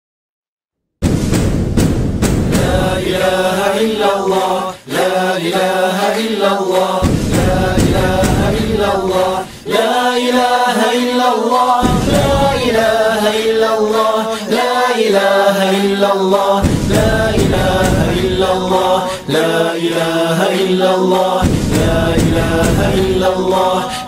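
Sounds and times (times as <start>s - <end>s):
voices chanting a slow melody: 2.5s - 24.0s.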